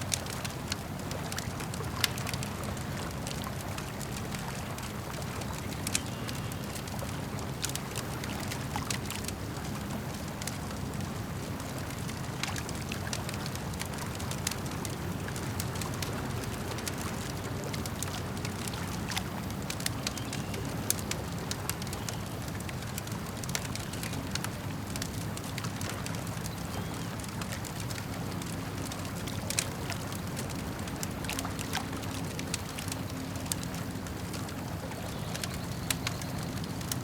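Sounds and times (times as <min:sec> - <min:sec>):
campfire crackling and popping: 0:00.0 - 0:37.0
lapping lake water: 0:00.0 - 0:37.0.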